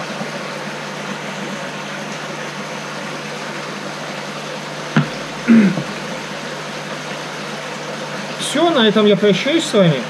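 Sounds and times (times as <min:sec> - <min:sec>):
machine hum and hiss: 0:00.0 - 0:10.0.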